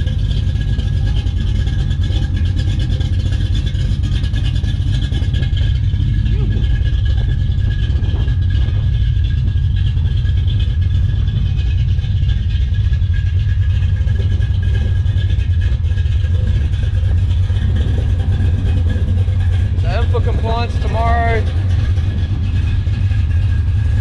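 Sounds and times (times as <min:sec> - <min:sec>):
car engine idling deep rumble: 0:00.0 - 0:24.0.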